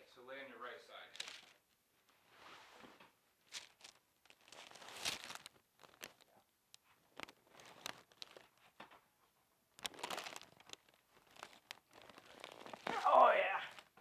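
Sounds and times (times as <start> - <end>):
rustling and crinkling on a table: 1.0 - 14.0.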